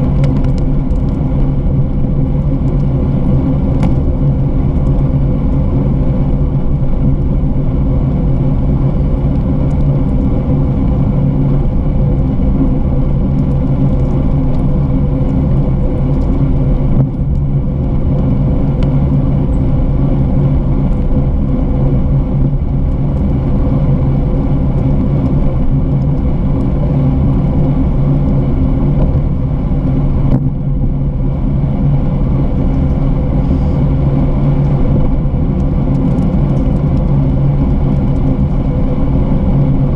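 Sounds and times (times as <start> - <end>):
bicycle rolling on pavement: 0.0 - 39.9
constant low hum: 0.0 - 39.9
wind noise: 0.0 - 39.9.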